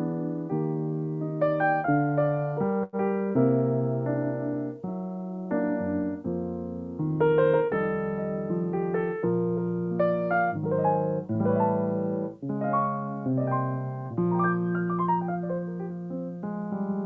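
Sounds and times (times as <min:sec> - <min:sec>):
solo piano chords and melody: 0:00.0 - 0:17.0.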